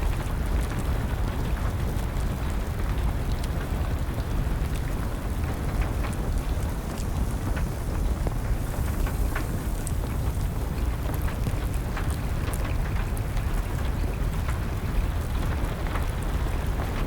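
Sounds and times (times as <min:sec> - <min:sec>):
rain falling: 0:00.0 - 0:17.0
wood fire crackling: 0:02.6 - 0:17.0.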